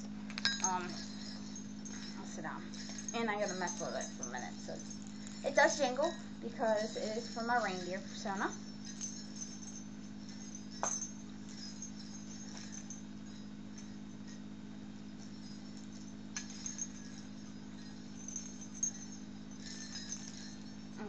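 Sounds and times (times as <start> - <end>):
small bells jingling: 0.0 - 21.0
steady low hum: 0.0 - 21.0.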